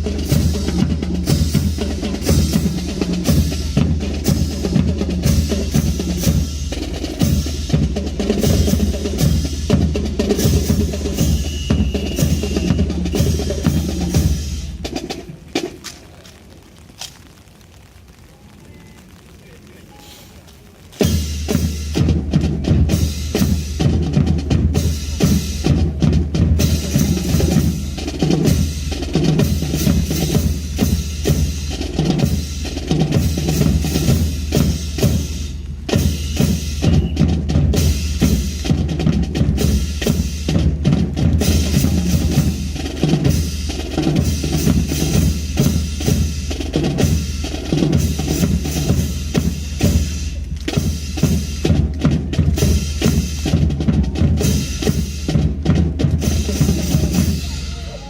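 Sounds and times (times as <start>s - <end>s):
bass drum beats: 0.0s - 15.5s, 21.0s - 58.0s
snare drum rolls: 0.0s - 16.4s, 20.9s - 58.0s.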